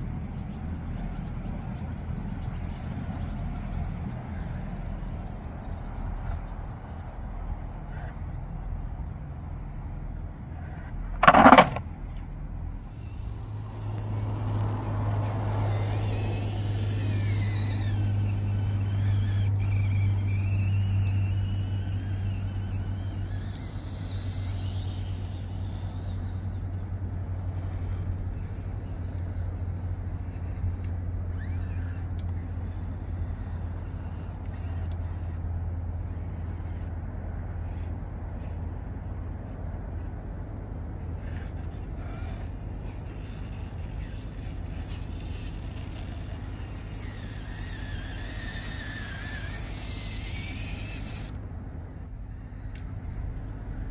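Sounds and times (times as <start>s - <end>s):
electric motor and gears whining: 0.0s - 8.2s, 10.5s - 53.9s
steady low hum: 0.0s - 53.9s.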